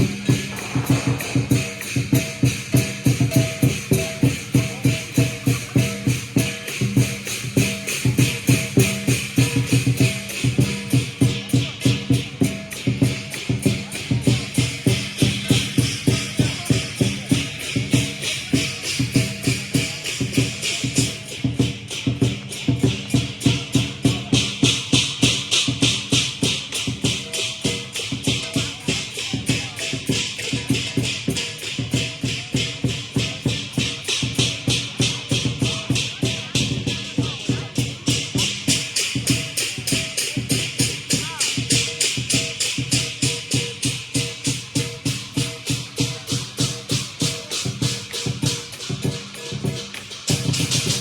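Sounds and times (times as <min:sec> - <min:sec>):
big drum beating: 0:00.0 - 0:51.0
cymbals clashing: 0:00.0 - 0:51.0.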